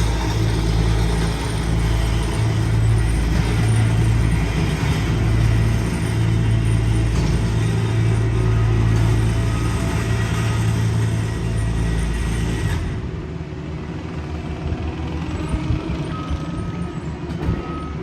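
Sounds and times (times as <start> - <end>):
low diesel engine hum: 0.0 - 18.0.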